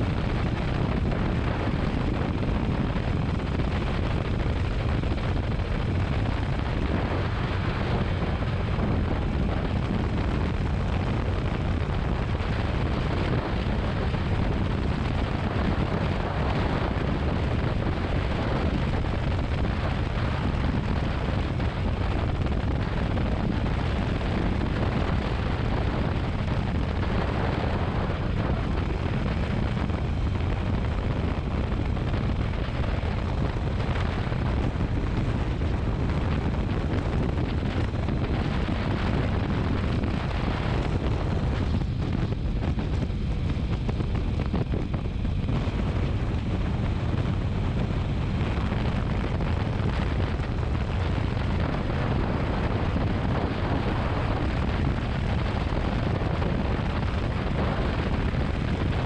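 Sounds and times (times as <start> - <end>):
road rumble: 0.0 - 59.0
wind rushing over microphone: 0.0 - 59.0.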